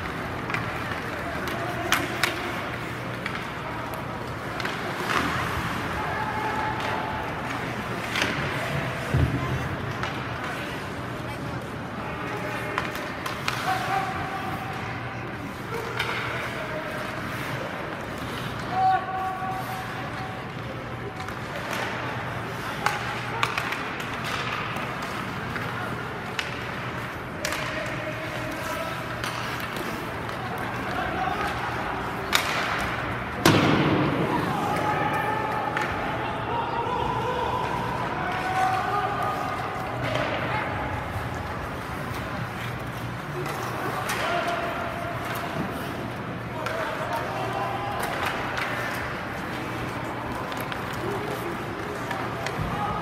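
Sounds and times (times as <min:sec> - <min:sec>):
hockey sticks and puck clacking: 0:00.0 - 0:53.0
steady background noise: 0:00.0 - 0:53.0.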